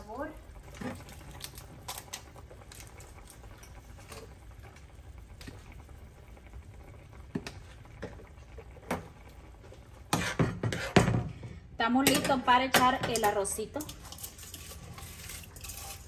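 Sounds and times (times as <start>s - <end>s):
pot of water bubbling: 0.0s - 16.0s.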